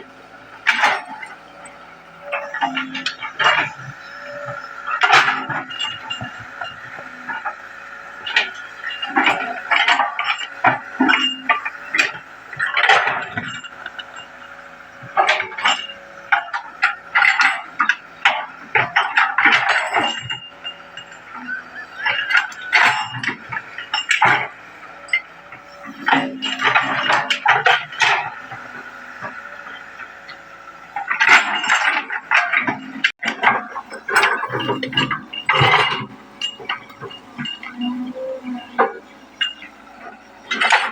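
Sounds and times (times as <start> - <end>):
excavator engine hum: 0.0 - 40.9
metallic clanks and knocks: 0.6 - 40.9.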